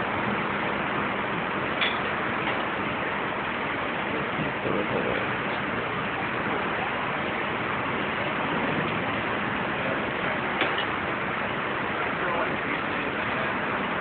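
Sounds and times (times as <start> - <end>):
churning ship wake: 0.0 - 14.0.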